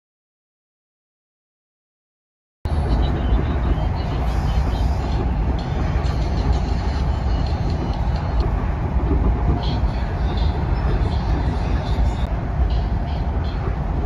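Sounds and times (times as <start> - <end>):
train running rumble: 2.7 - 14.0.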